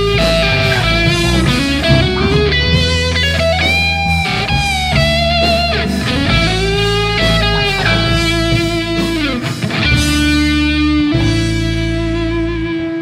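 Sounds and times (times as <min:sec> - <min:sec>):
blues-rock band playing: 0:00.0 - 0:13.0
electric guitar bending notes: 0:00.0 - 0:13.0.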